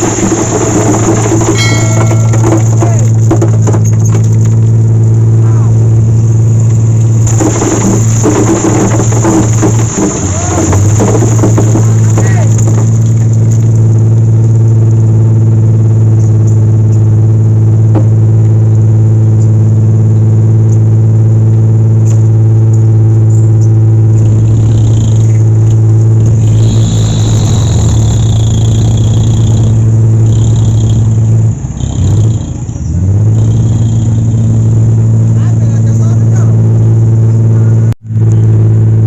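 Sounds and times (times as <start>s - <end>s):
truck engine droning: 0.0s - 39.0s.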